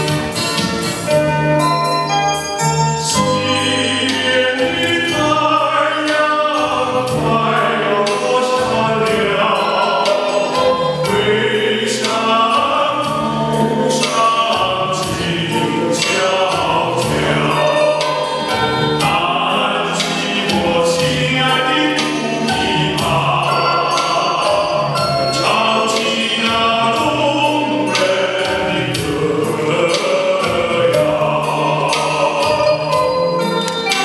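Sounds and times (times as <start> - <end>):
instrumental accompaniment with beat: 0.0 - 34.0
men singing in chorus: 3.4 - 34.0.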